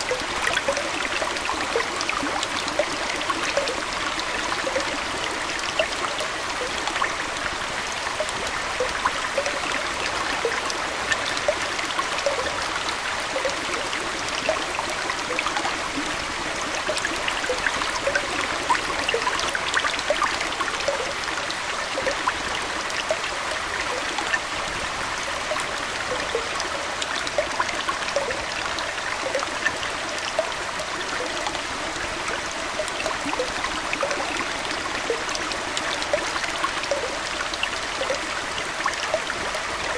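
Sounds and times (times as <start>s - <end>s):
aquarium water trickling: 0.0s - 39.9s
bubbling plinks: 0.0s - 39.9s.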